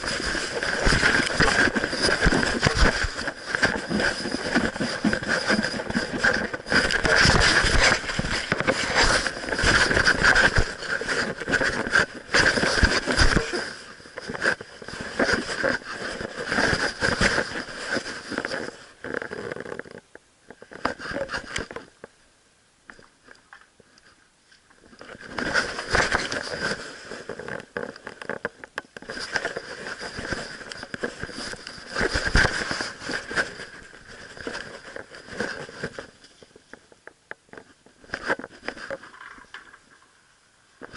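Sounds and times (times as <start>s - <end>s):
camera rubbing and knocking: 0.0s - 22.0s, 24.9s - 40.0s.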